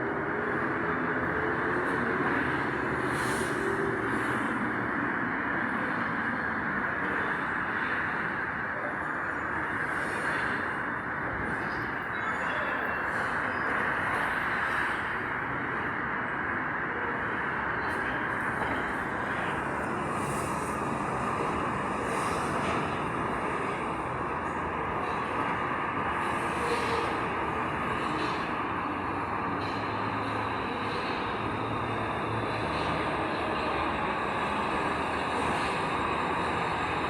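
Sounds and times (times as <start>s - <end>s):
metro train rolling and motor noise: 0.0s - 37.0s.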